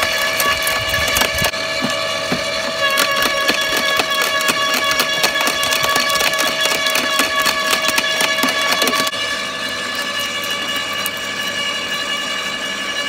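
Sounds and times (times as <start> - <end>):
garden shredder gear whine: 0.0 - 13.0.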